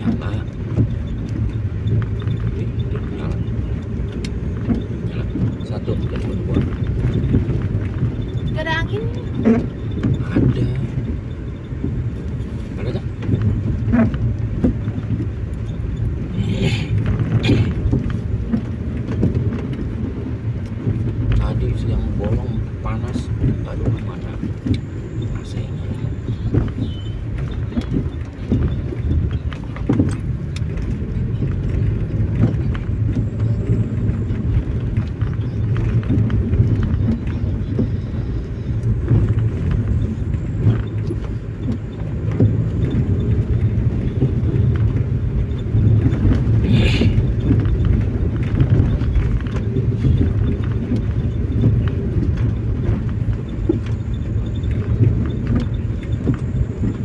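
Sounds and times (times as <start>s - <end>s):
tyre and engine rumble: 0.0s - 57.0s.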